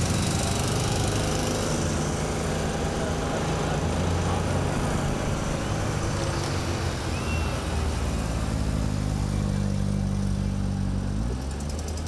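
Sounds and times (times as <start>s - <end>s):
car engines humming: 0.0s - 12.0s
tyre and road noise: 0.0s - 12.0s.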